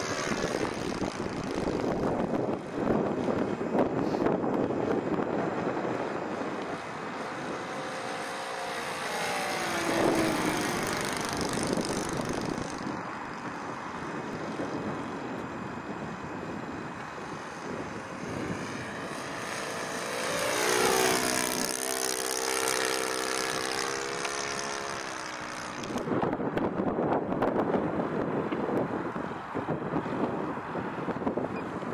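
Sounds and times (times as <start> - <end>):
model plane engine flying by: 0.0 - 26.3.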